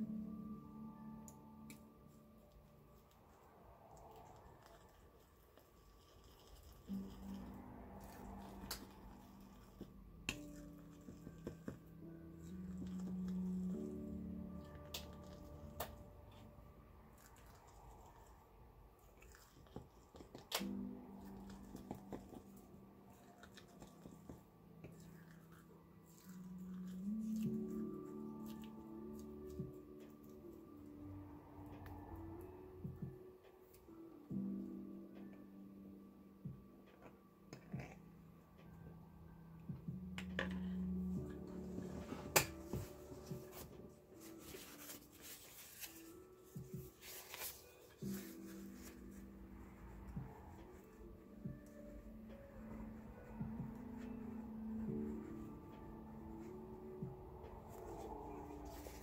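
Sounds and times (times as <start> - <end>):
soft background music: 0.0 - 59.0.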